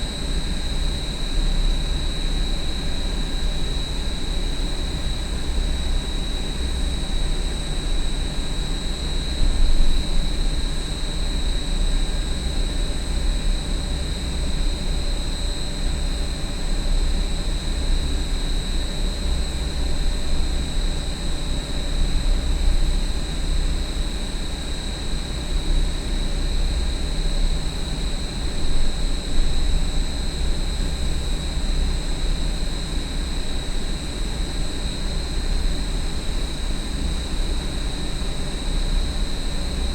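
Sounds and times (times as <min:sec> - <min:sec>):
high-pitched fan whine: 0:00.0 - 0:39.9.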